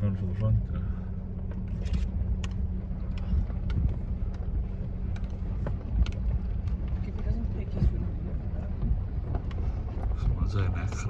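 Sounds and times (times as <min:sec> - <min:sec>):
engine and road rumble: 0:00.0 - 0:11.0
light clicks and rattles: 0:01.4 - 0:11.0.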